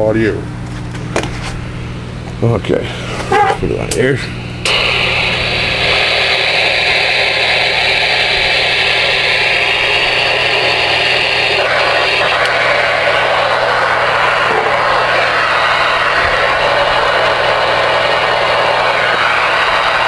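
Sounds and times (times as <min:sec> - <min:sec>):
low hum: 0:01.3 - 0:20.0
radio static hiss: 0:02.5 - 0:20.0.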